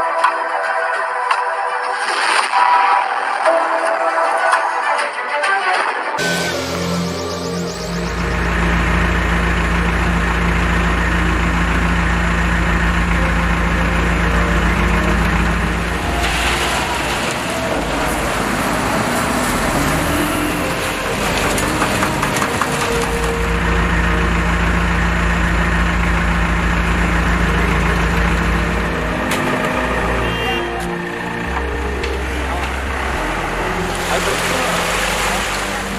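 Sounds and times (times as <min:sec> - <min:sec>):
concrete mixer engine humming: 0:06.2 - 0:35.9.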